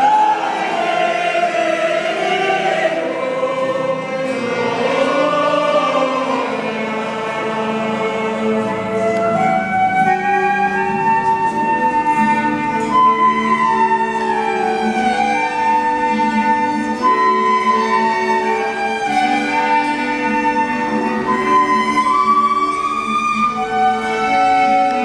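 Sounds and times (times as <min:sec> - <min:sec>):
slow ensemble melody: 0:00.0 - 0:25.0.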